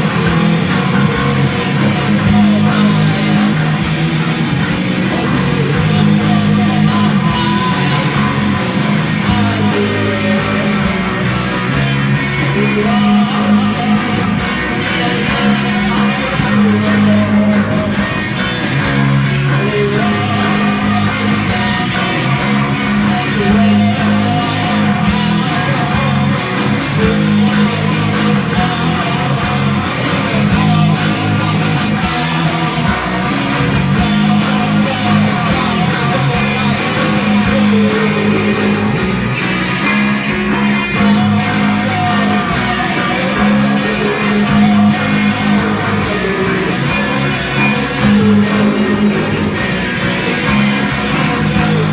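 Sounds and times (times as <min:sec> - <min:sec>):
bass guitar: 0:00.0 - 0:51.9
drums: 0:00.0 - 0:51.9
electric guitar: 0:00.0 - 0:51.9.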